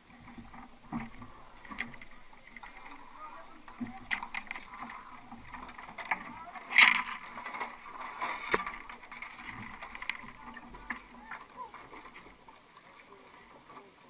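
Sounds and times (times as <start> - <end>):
knocks and clicks of boat: 0.0 - 14.0.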